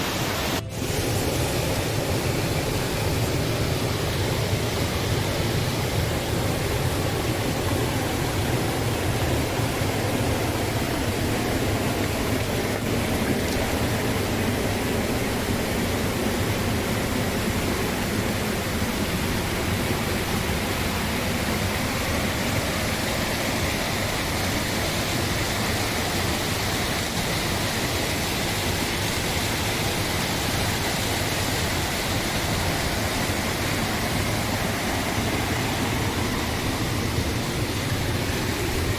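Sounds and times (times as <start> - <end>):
water rushing steadily: 0.0 - 38.9.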